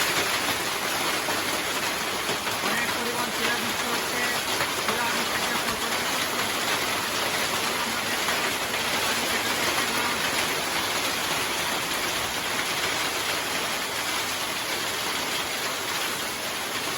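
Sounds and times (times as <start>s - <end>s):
hail and heavy rain falling: 0.0s - 16.9s.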